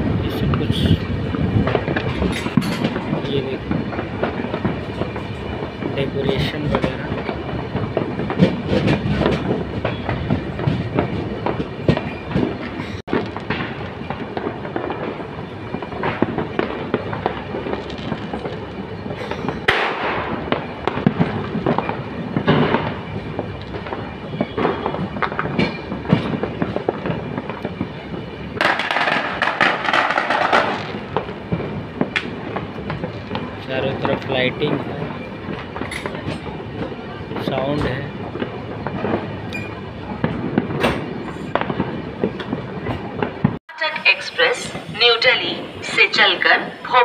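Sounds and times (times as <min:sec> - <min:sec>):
train wheels clattering on rails: 0:00.4 - 0:43.6.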